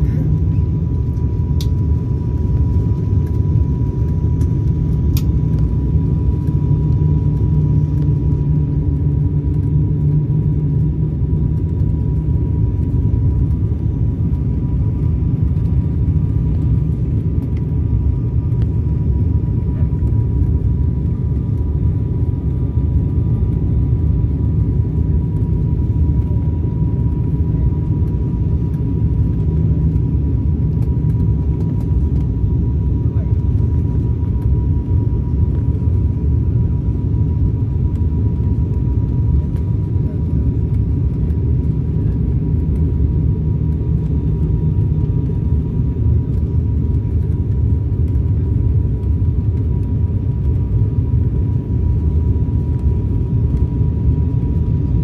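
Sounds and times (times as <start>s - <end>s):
low rumble of engines and airflow: 0.0s - 55.0s.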